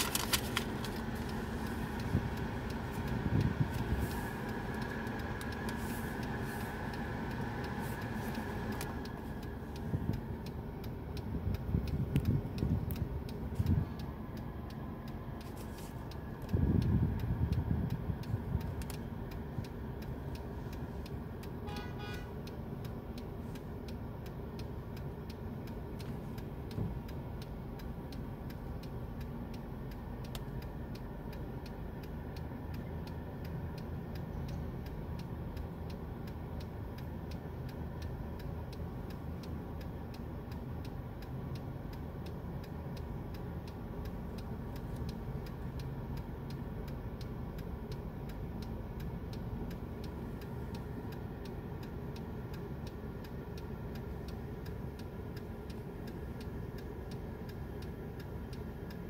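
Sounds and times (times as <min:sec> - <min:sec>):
car engine rumble inside cabin: 0:00.0 - 0:59.0
faint regular ticking: 0:00.0 - 0:59.0.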